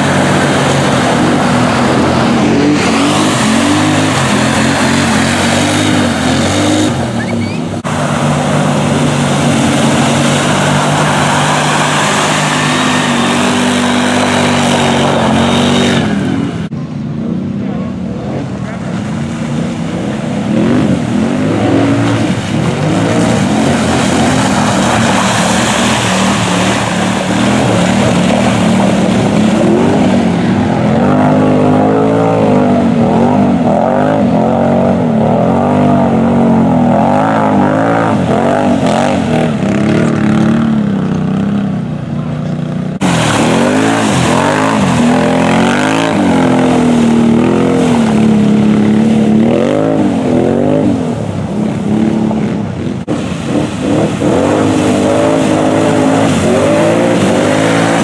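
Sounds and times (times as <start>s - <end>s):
quad bike engine revving: 0.0s - 16.7s, 19.5s - 58.0s.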